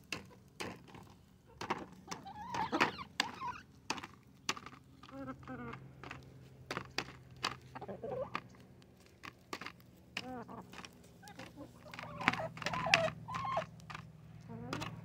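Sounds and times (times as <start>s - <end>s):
hens clucking softly: 0.1s - 15.0s.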